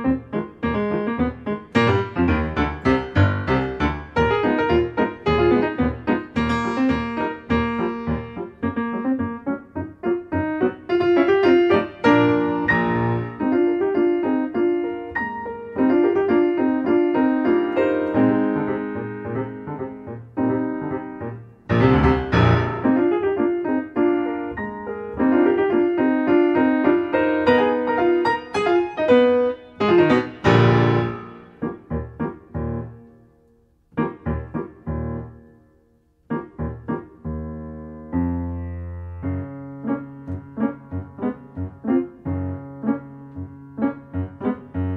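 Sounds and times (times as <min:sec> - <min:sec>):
piano music: 0:00.0 - 0:44.9.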